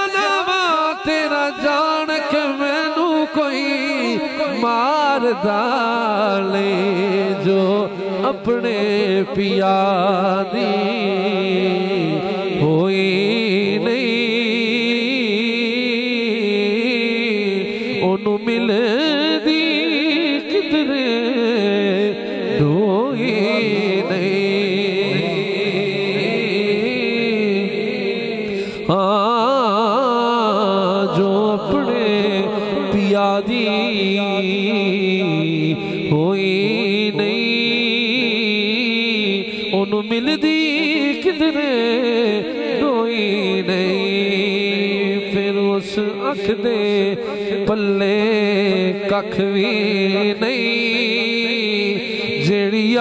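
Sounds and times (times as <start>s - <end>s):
man singing ornamented notes: 0.0s - 53.0s.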